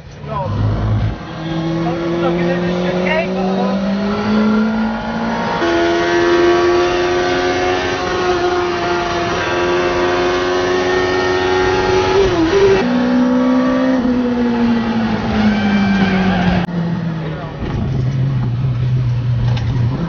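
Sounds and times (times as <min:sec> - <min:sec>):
motorbike engine revving high: 0:00.4 - 0:16.7.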